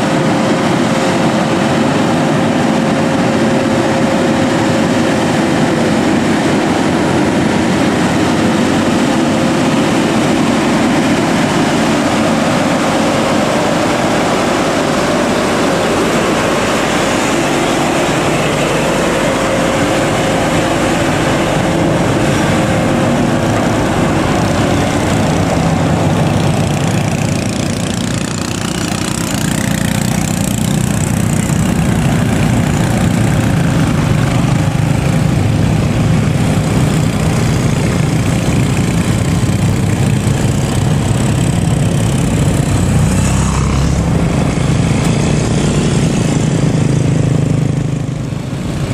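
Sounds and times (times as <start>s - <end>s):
steady whine: 0.0s - 48.9s
truck diesel engine under load: 0.0s - 48.9s.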